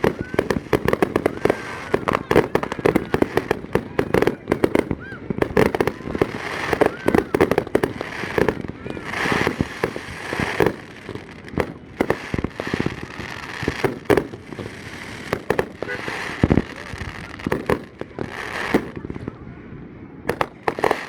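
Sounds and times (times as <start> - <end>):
fireworks bangs: 0.0 - 19.4, 20.2 - 21.0
fireworks crackling: 0.0 - 19.4, 20.2 - 21.0.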